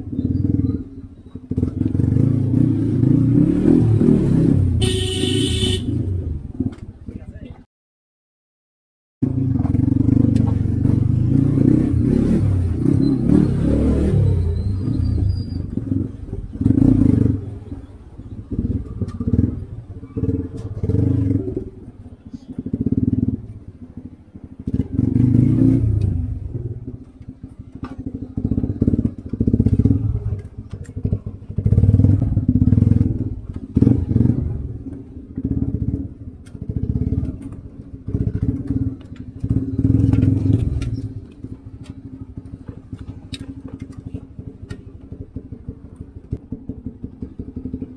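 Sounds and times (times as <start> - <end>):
motorcycle engine revving: 0.0 - 7.2, 9.2 - 47.9.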